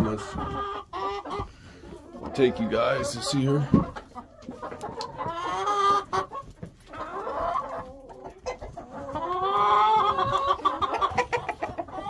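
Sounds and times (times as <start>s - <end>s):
chickens clucking: 0.0s - 12.0s
drawn-out chicken calls: 0.0s - 12.0s.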